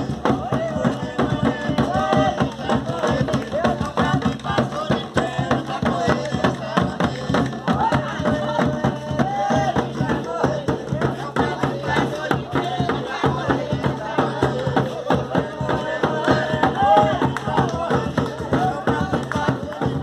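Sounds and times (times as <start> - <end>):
dense percussion rhythm: 0.0 - 20.0
voices singing: 0.0 - 20.0.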